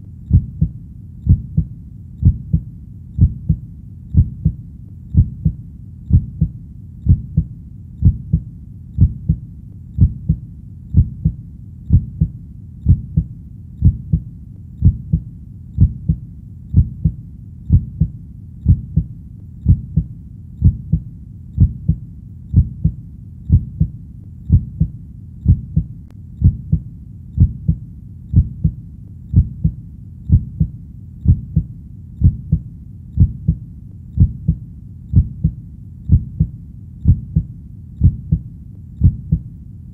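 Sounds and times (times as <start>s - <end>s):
heartbeat double thump: 0.3s - 9.4s, 10.0s - 15.2s, 15.8s - 26.8s, 27.4s - 32.6s, 33.2s - 33.6s, 34.2s - 39.4s.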